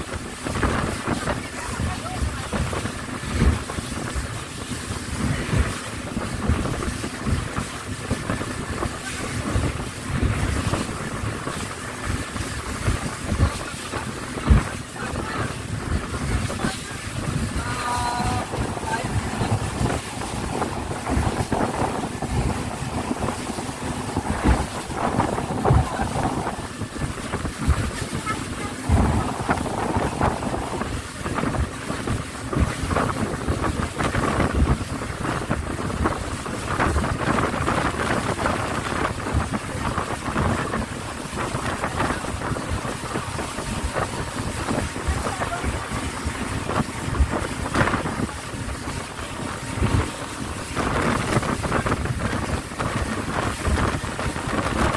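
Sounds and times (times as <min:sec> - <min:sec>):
boat engine: 0:00.0 - 0:54.9
boat thumping over waves: 0:00.0 - 0:54.9
water rushing: 0:00.0 - 0:54.9
wind buffeting microphone: 0:00.0 - 0:54.9.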